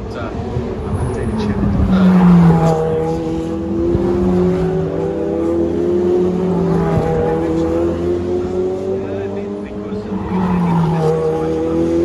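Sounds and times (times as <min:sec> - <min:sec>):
race cars passing at high revs: 0:00.0 - 0:12.0.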